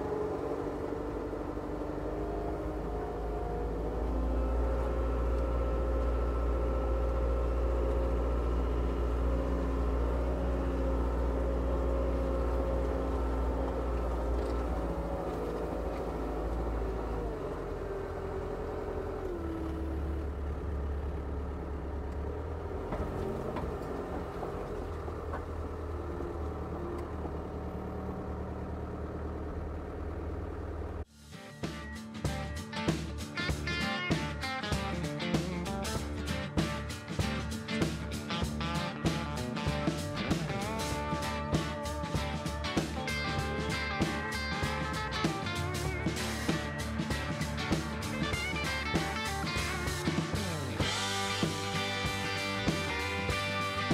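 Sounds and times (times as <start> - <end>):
sawmill engine running: 0.0 - 31.1, 33.2 - 53.9.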